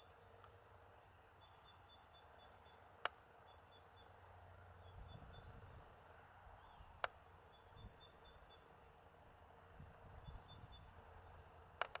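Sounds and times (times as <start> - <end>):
small bird chirping: 0.0 - 5.8, 6.4 - 9.0, 10.2 - 11.5.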